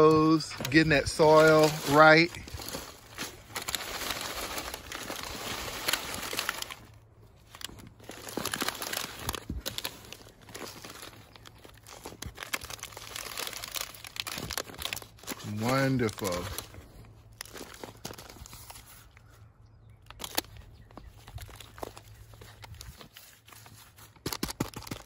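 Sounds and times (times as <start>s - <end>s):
potting soil rustling and crunching: 0.0s - 19.4s, 20.1s - 25.0s.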